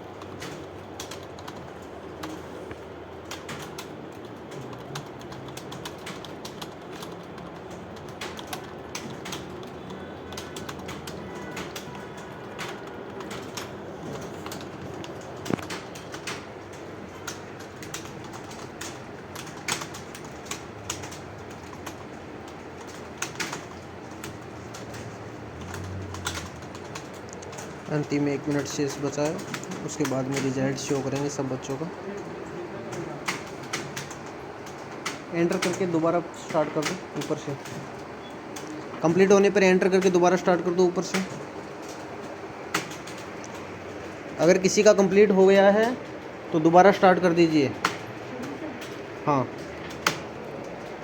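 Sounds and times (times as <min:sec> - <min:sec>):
clatter of keyboard typing: 0:00.0 - 0:51.0.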